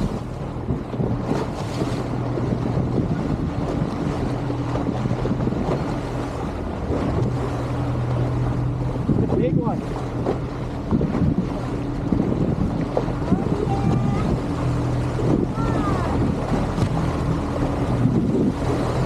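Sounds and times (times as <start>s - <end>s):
boat engine humming: 0.0s - 19.0s
water rushing past hull: 0.0s - 19.0s
wind buffeting microphone: 0.0s - 19.0s.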